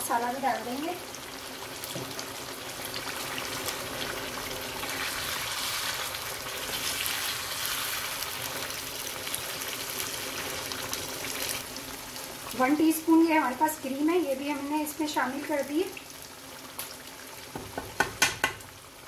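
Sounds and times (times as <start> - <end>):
curry sizzling and bubbling: 0.0 - 19.0.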